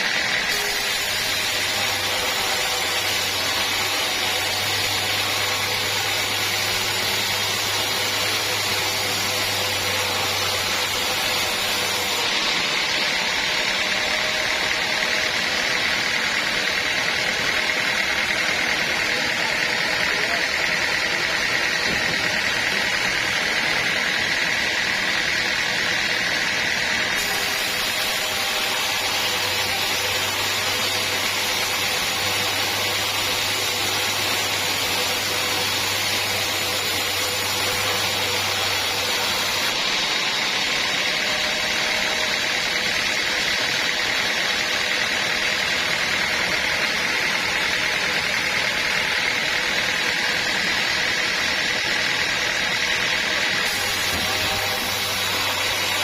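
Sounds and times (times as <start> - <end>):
sawmill motor and saw: 0.0 - 56.0.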